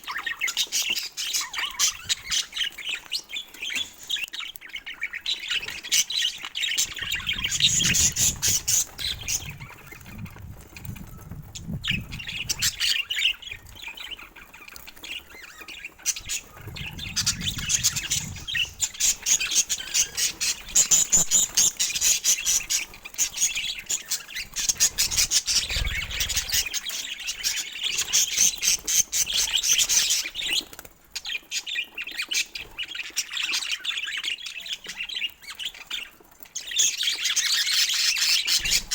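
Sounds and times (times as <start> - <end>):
budgerigars chattering: 0.0 - 10.2, 11.6 - 30.6, 31.2 - 38.9.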